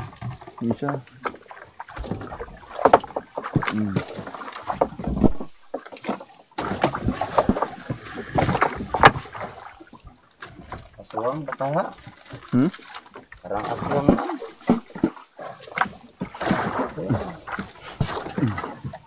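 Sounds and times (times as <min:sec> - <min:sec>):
knocks and clatter on a boat: 0:00.0 - 0:19.0.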